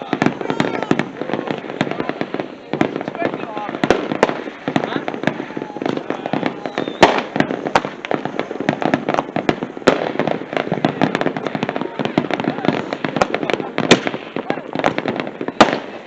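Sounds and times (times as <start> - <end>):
firecrackers popping: 0.0 - 16.0
loud firework bangs: 0.0 - 16.0.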